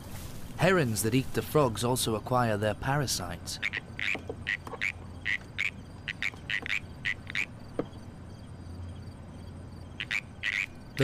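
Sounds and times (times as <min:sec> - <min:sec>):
low steady hum: 0:00.0 - 0:11.0
frogs croaking: 0:01.8 - 0:11.0.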